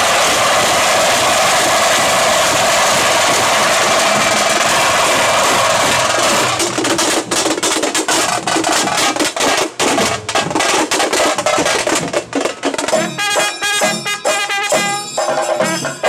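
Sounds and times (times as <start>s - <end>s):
frame drums beaten with sticks: 0.0s - 16.0s.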